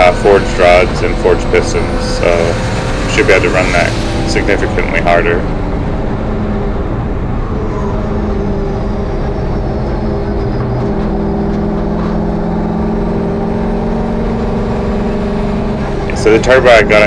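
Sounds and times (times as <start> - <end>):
turbocharged engine running: 0.0 - 17.0.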